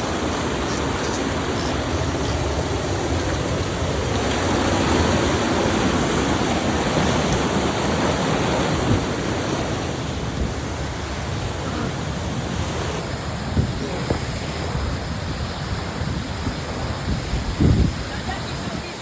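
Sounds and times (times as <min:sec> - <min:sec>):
fast-moving water rushing: 0:00.0 - 0:19.0.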